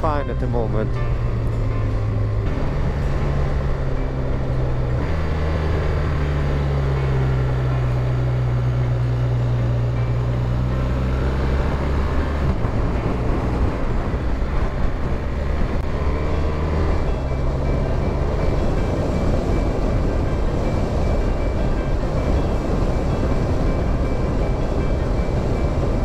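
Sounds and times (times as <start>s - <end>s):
wind and road noise: 0.0s - 26.0s
motorcycle engine running: 1.0s - 26.0s.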